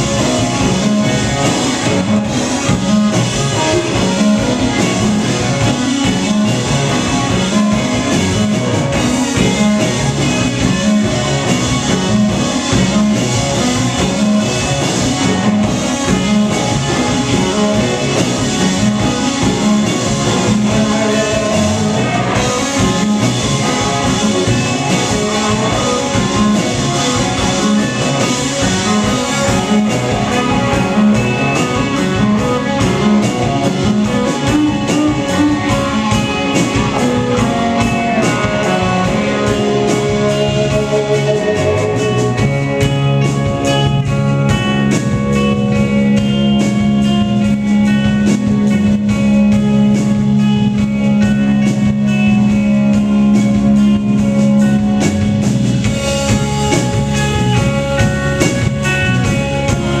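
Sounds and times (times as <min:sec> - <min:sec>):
drum kit with cymbal hits: 0:00.0 - 1:00.0
electric guitars: 0:00.0 - 1:00.0.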